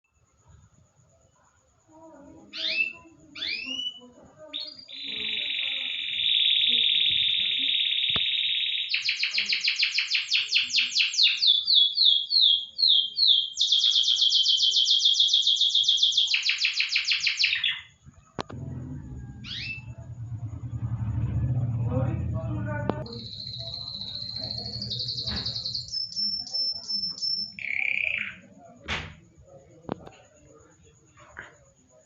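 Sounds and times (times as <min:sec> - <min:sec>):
songbird singing: 0:02.4 - 0:28.7.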